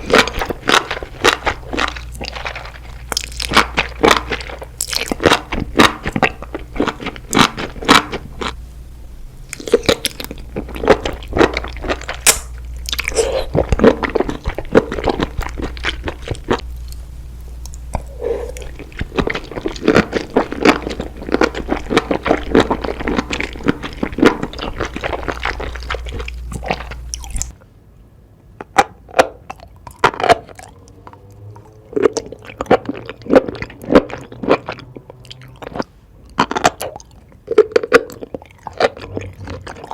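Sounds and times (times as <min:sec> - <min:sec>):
crunchy chewing: 0:00.0 - 0:08.6, 0:09.4 - 0:27.6, 0:28.6 - 0:39.9
low background hum: 0:00.0 - 0:39.9.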